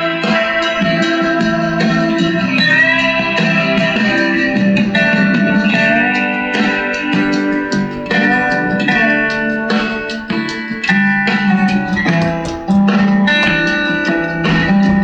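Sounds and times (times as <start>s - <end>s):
guitar music through radio speaker: 0.0s - 15.0s.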